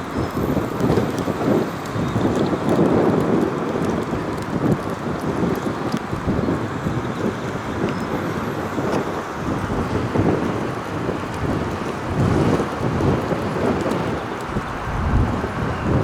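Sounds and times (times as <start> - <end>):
steady rain: 0.0 - 16.0
thunder rumbling: 0.0 - 16.0
wind buffeting microphone: 0.0 - 16.0.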